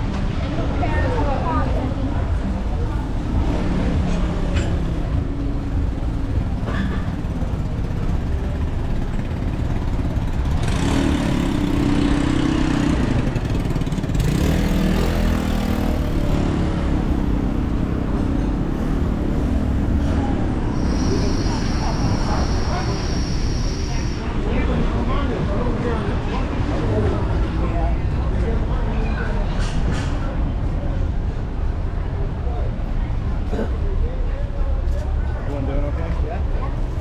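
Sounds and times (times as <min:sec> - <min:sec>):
low traffic rumble: 0:00.0 - 0:37.0
vehicle engine passing: 0:00.3 - 0:32.2.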